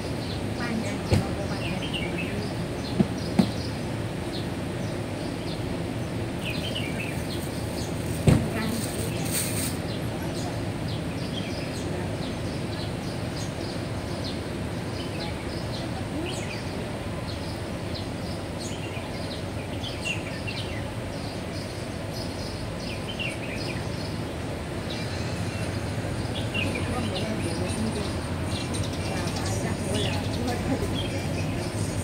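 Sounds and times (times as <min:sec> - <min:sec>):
low city hum: 0:00.0 - 0:32.0
small birds chirping: 0:00.0 - 0:32.0.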